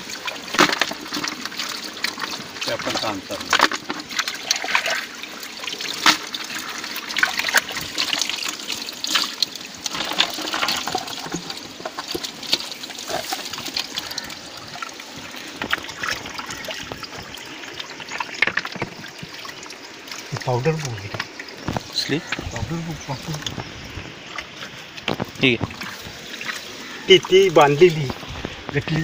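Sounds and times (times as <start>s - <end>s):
water dripping: 0.0s - 29.0s
water splashing and trickling: 0.0s - 29.0s.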